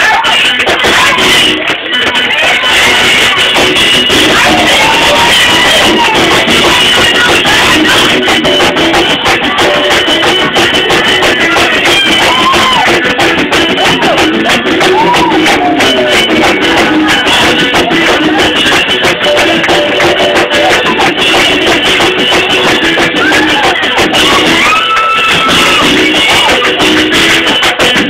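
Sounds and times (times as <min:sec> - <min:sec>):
church praise music: 0:00.0 - 0:28.0.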